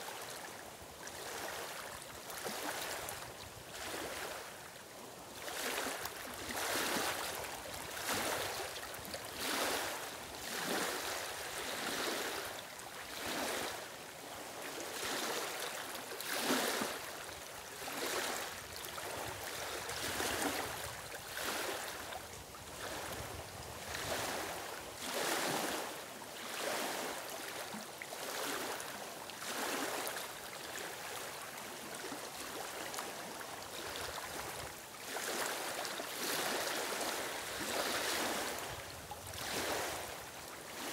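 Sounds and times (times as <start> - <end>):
waves lapping on stony shore: 0.0 - 40.9.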